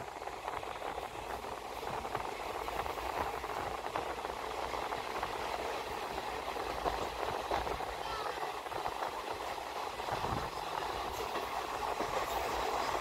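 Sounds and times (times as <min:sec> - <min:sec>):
train wheel and rail noise: 0:00.0 - 0:13.0.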